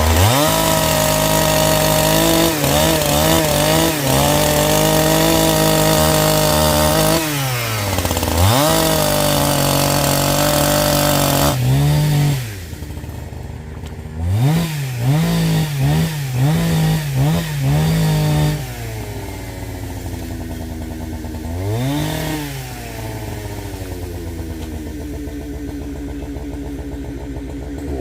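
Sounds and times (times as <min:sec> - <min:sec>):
chainsaw revving and idling: 0:00.0 - 0:28.0.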